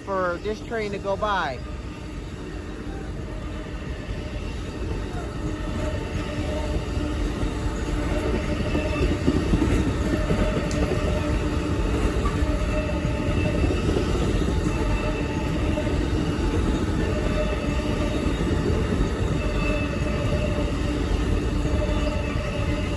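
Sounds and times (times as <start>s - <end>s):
passenger train rumbling past: 0.0s - 22.9s.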